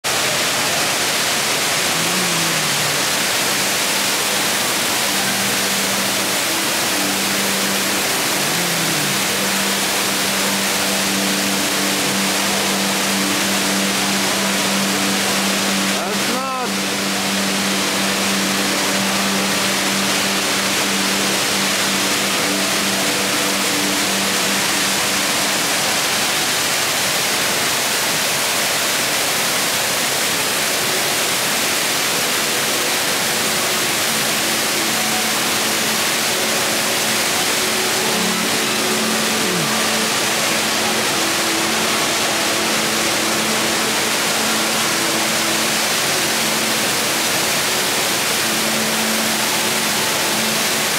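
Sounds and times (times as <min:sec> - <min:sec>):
indoor waterfall rushing: 0:00.0 - 0:50.9.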